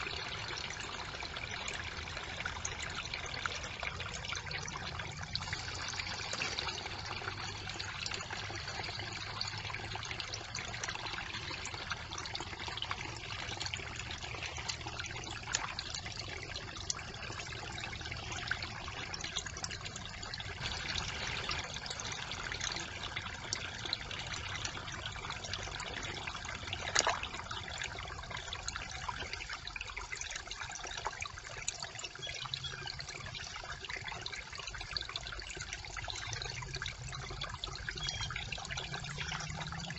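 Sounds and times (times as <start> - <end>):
brook water trickling: 0.0 - 39.9
small ticks and splashes: 0.0 - 39.9.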